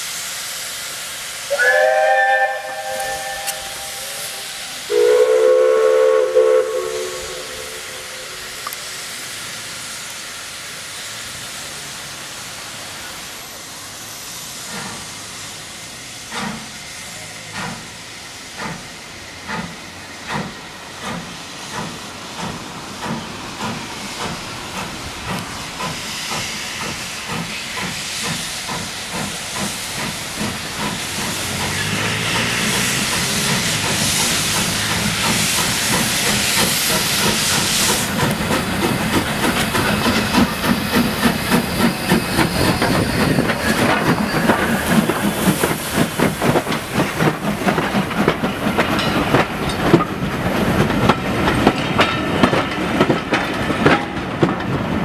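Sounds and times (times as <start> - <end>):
steam hissing from cylinders: 0.0 - 55.0
steam locomotive exhaust beats: 0.0 - 55.0.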